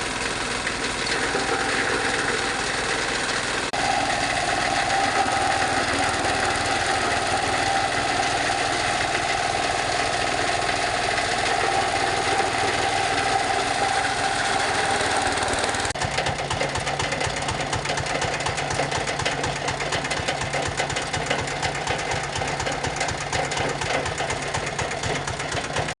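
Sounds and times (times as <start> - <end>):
fabric shredding machine: 0.0 - 26.0.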